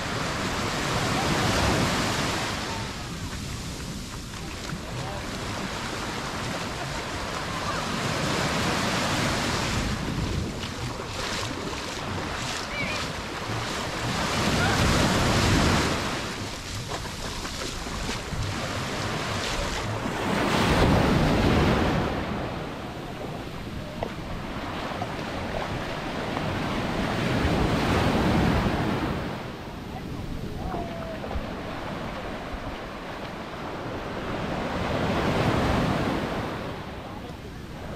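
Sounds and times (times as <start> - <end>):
waves breaking on sandy beach: 0.0 - 37.9.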